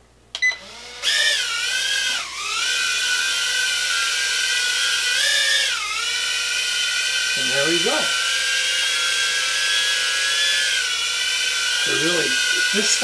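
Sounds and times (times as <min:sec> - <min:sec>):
quadcopter motors whining: 0:00.6 - 0:13.0.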